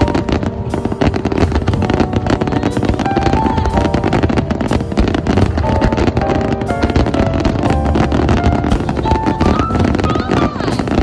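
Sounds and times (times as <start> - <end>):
fireworks bangs and crackles: 0.0 - 11.0
music melody: 0.0 - 11.0.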